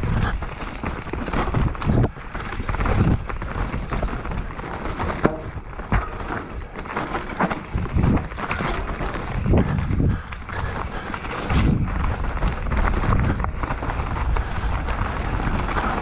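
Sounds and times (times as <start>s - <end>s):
bike thumps and rattles: 0.0s - 16.0s
tyres rolling over dirt: 0.0s - 16.0s.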